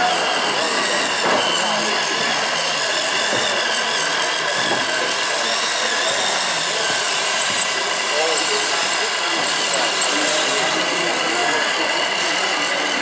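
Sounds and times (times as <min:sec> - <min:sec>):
small electric motors whirring: 0:00.0 - 0:13.0.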